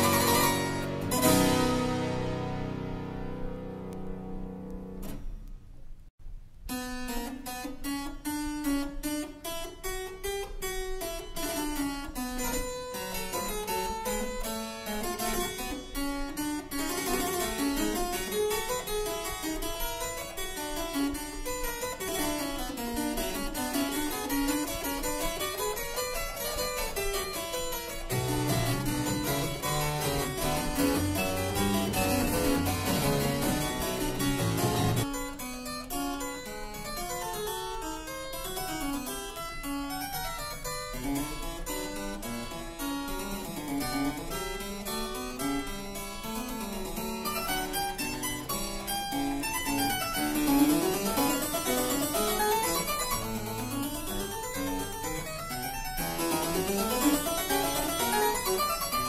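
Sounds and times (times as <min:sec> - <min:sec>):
harpsichord playing baroque music: 0:00.0 - 0:05.0, 0:06.7 - 0:59.0.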